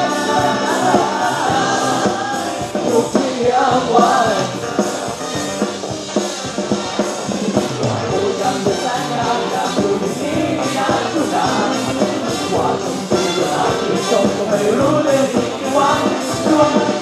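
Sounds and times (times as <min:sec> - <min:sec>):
men singing: 0:00.0 - 0:04.7, 0:07.2 - 0:17.0
bass guitar: 0:00.0 - 0:17.0
drum kit: 0:00.0 - 0:17.0
electric guitars: 0:00.0 - 0:17.0
keyboard: 0:00.0 - 0:17.0.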